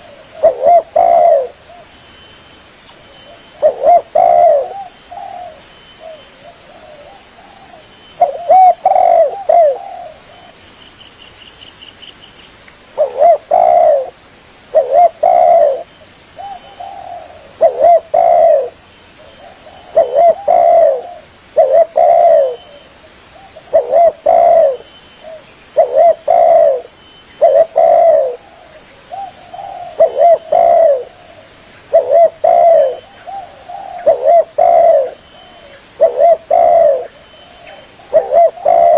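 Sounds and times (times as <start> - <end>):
dove cooing: 0.0 - 2.0, 3.2 - 10.6, 13.0 - 38.9.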